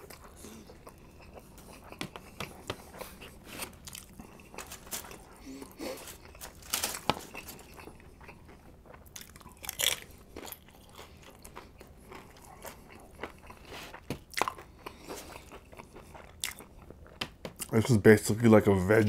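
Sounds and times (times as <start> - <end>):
crunching and chewing chips: 0.0 - 17.9.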